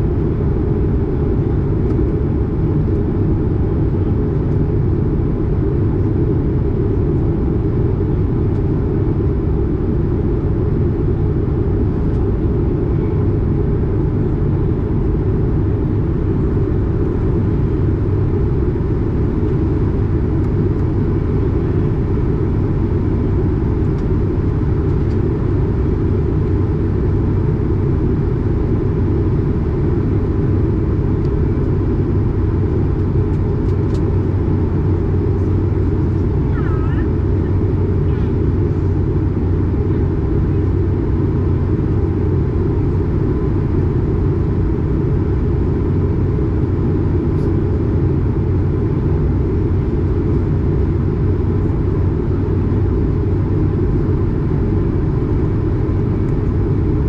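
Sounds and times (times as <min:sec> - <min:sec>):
airplane cabin engine rumble: 0:00.0 - 0:57.0
low hum: 0:00.0 - 0:57.0.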